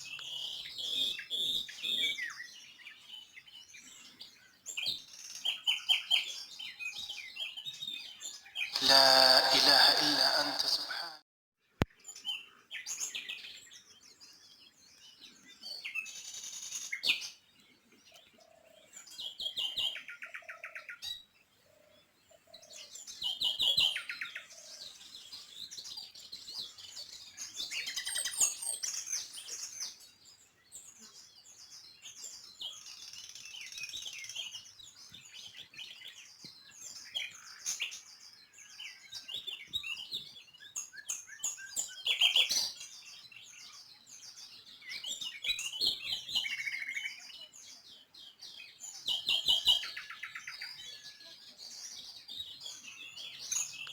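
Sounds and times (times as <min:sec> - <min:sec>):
songbirds chirping and twittering: 0:00.0 - 0:10.9, 0:11.6 - 0:53.9.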